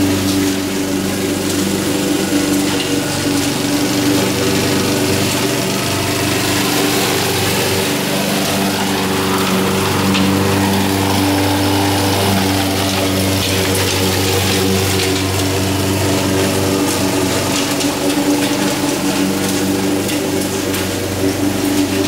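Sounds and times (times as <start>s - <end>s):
lawn mower engine cutting grass: 0.0s - 22.0s.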